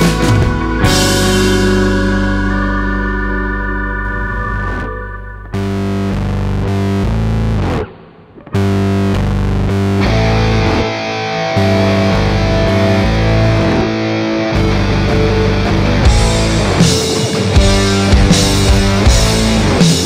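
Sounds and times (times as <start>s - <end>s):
rock music with electric guitar: 0.0s - 20.0s.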